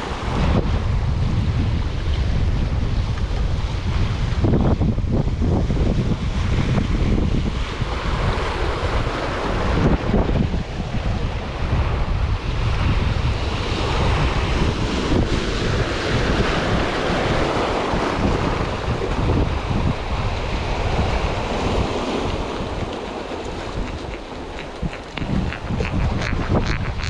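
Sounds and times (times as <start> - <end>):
sea waves washing on shore: 0.0 - 4.4, 5.2 - 25.9
wind buffeting microphone: 0.0 - 27.0.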